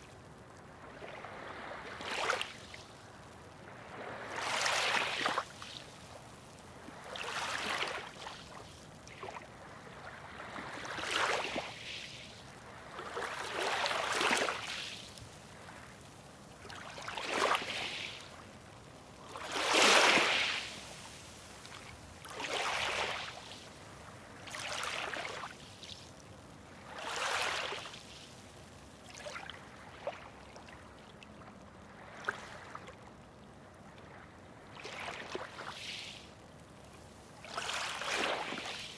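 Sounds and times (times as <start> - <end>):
small waves washing on shore: 0.0 - 33.2, 33.8 - 38.9.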